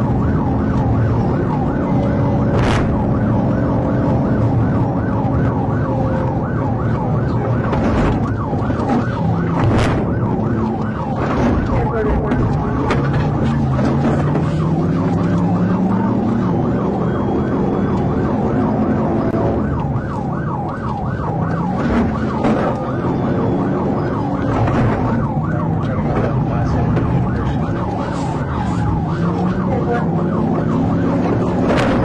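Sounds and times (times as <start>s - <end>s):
siren yelping: 0.0s - 32.0s.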